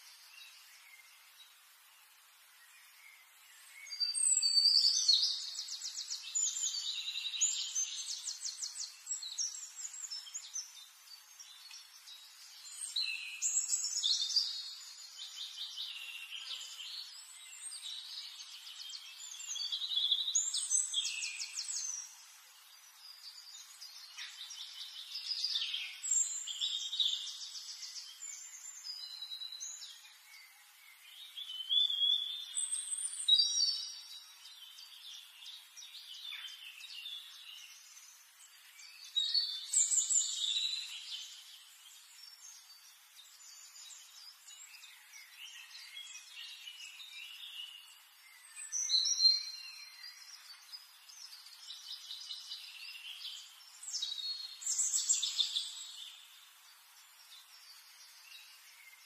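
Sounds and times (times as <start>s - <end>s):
faint steady hiss: 0.0s - 59.0s
finches trilling and chirping: 2.8s - 59.0s.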